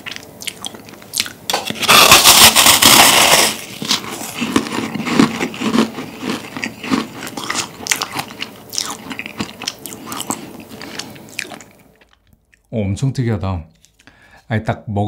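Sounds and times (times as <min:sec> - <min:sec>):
crunching and chewing meringue: 0:00.0 - 0:12.7.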